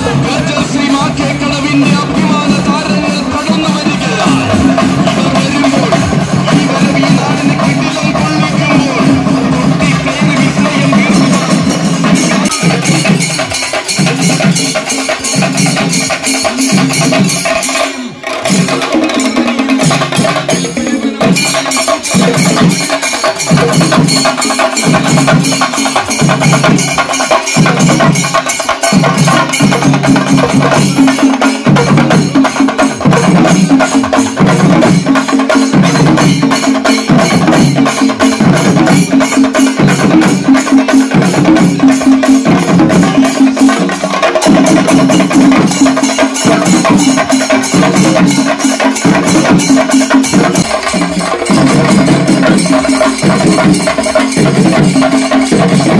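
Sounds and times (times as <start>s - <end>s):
fast drum and cymbal percussion: 0.0s - 55.9s.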